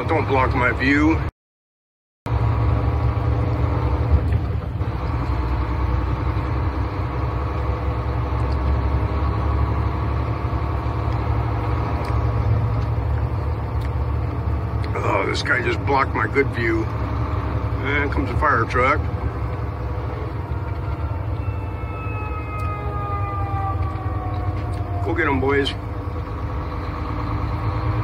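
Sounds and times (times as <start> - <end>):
road noise inside a car: 0.0 - 1.3, 2.3 - 28.0
vehicle engine drone: 0.0 - 1.3, 2.3 - 28.0.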